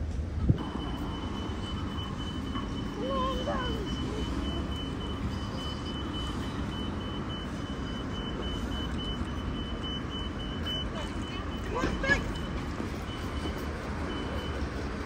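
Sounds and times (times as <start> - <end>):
passing cars hum: 0.0 - 15.0
pedestrian crossing beep: 0.6 - 15.0.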